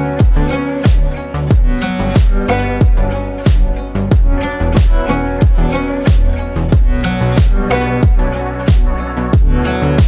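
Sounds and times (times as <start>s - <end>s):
music with deep beat and chords: 0.0s - 10.0s.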